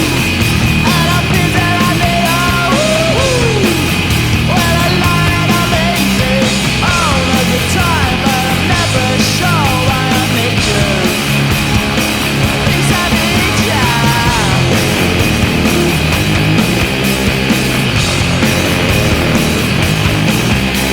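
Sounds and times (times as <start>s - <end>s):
loud rock music: 0.0s - 20.9s.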